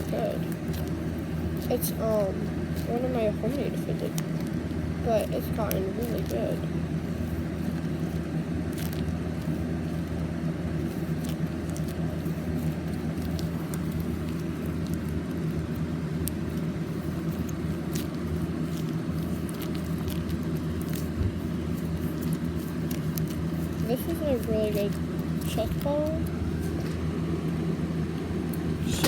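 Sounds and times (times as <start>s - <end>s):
faint clicks and crackles: 0.0s - 29.0s
steady low hum: 0.0s - 29.0s.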